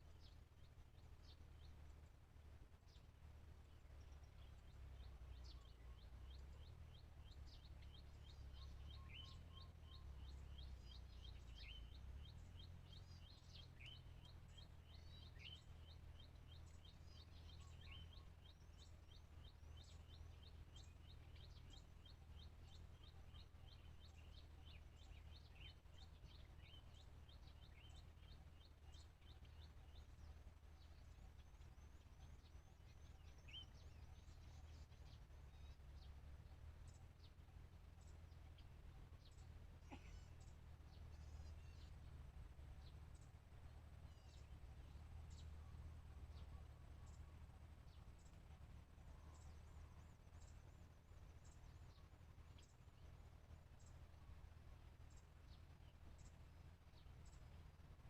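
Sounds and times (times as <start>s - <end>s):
bird chirps: 0.0s - 58.0s.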